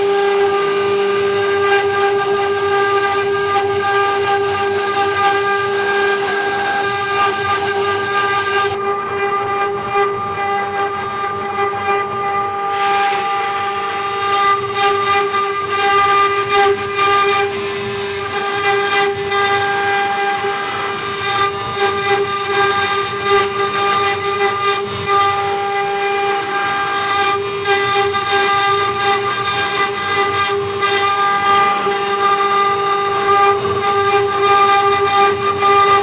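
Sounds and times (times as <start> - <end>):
router spindle whining: 0.0 - 36.0.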